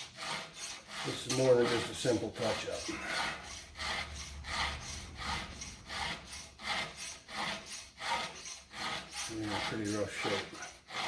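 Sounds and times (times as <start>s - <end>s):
file rasping on chainsaw chain: 0.0s - 11.0s.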